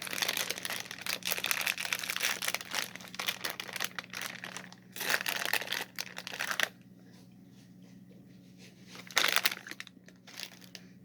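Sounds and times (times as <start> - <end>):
candy wrapper crinkling: 0.0 - 6.8, 8.9 - 10.9.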